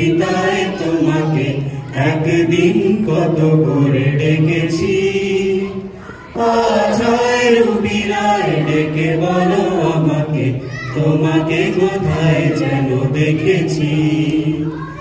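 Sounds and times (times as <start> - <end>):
group singing through microphones: 0.0 - 15.0.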